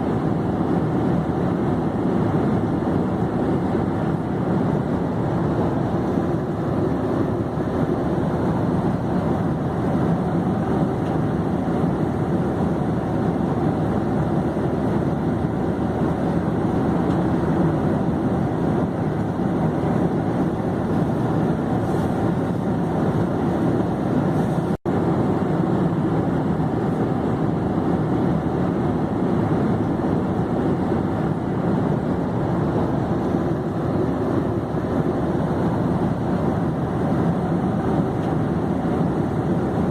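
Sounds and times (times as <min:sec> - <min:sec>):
airplane engine and rushing air: 0:00.0 - 0:39.9.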